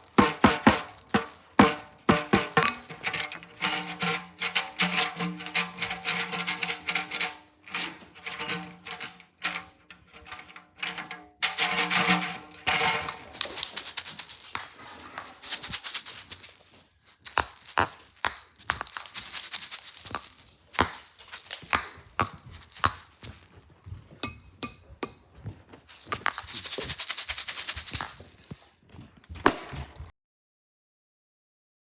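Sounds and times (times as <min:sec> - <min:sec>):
rattling and shaking: 0:00.0 - 0:28.6, 0:29.4 - 0:30.1.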